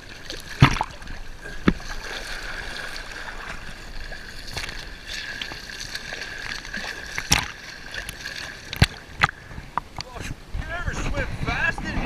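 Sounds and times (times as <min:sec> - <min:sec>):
river water sloshing and splashing: 0:00.0 - 0:10.1.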